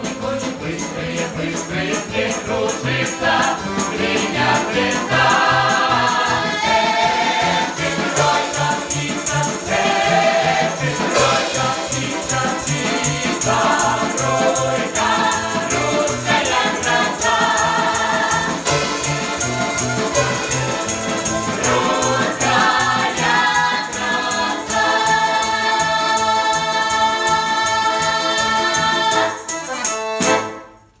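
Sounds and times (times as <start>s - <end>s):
folk choir singing: 0.0s - 30.6s
rhythmic beat: 0.0s - 30.7s
jingling percussion: 0.0s - 31.0s.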